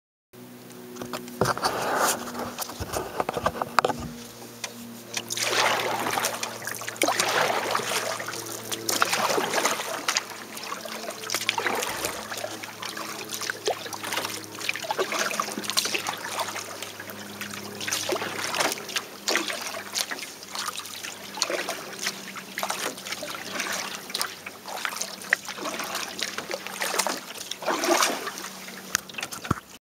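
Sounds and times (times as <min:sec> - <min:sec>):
paddle splashing in water: 0:01.0 - 0:29.8.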